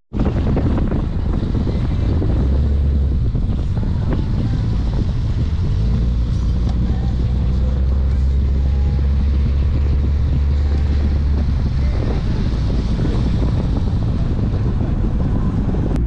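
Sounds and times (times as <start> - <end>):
wind rushing over microphone: 0.1 - 16.0
car driving on wet road: 0.2 - 16.0.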